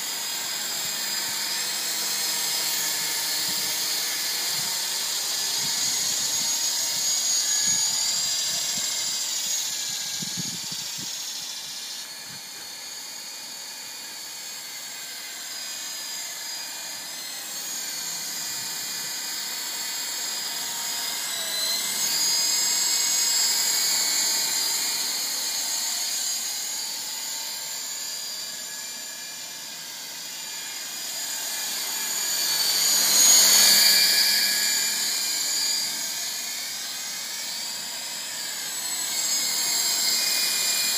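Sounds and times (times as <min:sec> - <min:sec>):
electric motors whining: 0:00.0 - 0:40.9
helicopter rotors whirring: 0:00.0 - 0:40.9.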